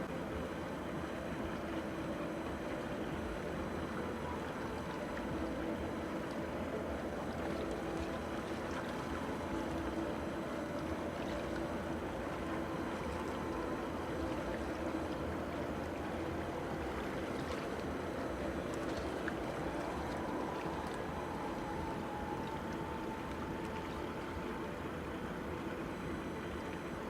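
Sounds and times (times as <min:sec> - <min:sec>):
boat engines humming: 0:00.0 - 0:27.0.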